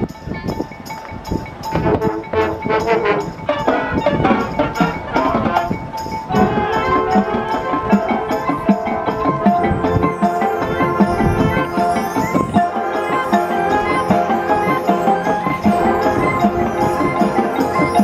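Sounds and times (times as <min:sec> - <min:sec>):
mallet percussion: 0:00.0 - 0:18.0
marching band playing: 0:01.5 - 0:18.0.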